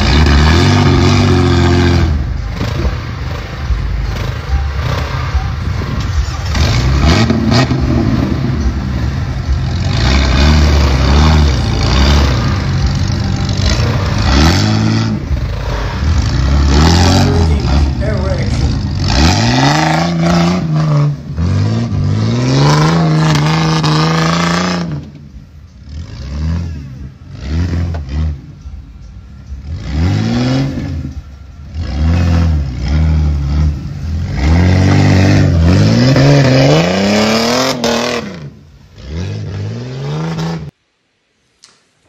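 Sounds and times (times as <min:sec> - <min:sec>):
off-road vehicle engine revving: 0:00.0 - 0:40.8.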